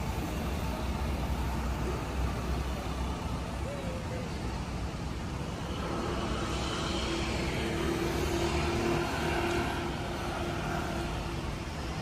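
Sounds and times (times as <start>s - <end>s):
cars passing: 0.0s - 12.0s
engine drone: 0.0s - 12.0s.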